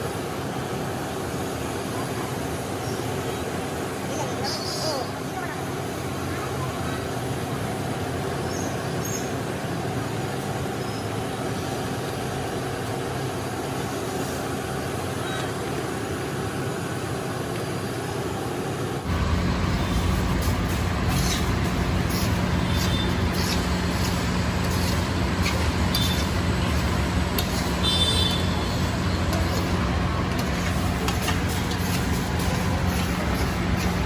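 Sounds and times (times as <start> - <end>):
street traffic: 0.0 - 34.0.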